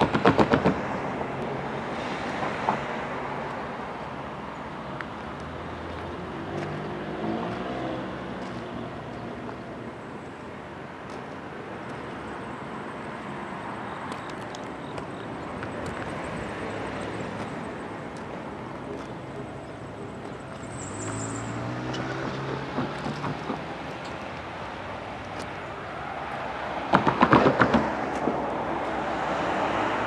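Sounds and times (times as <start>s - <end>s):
distant traffic rumble: 0.0s - 30.0s.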